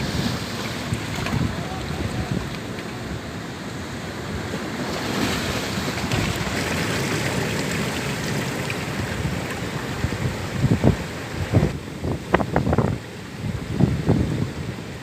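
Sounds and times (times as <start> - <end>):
wind buffeting microphone: 0.0 - 3.3, 5.4 - 15.0
sea surf breaking: 0.0 - 15.0.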